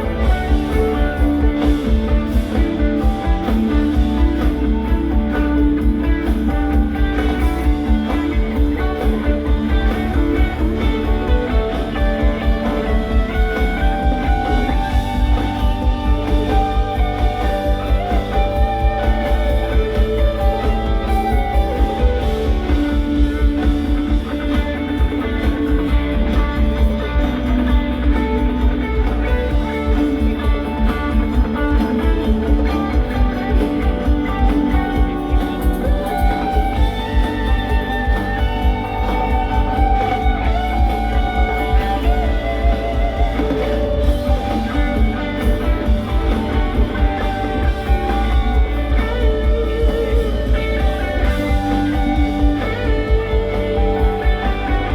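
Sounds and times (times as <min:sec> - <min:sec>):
bass: 0:00.0 - 0:54.9
drums steady beat: 0:00.0 - 0:54.9
electric guitar: 0:00.0 - 0:54.9.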